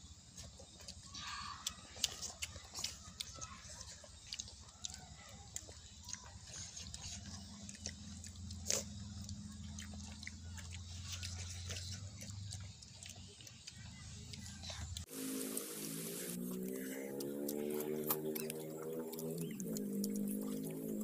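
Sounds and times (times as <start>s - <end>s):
children chewing and smacking lips: 0.0s - 21.0s.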